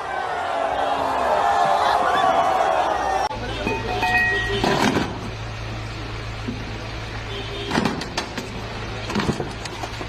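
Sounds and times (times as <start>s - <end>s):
car engine drone: 0.0s - 10.0s
road noise: 0.0s - 10.0s.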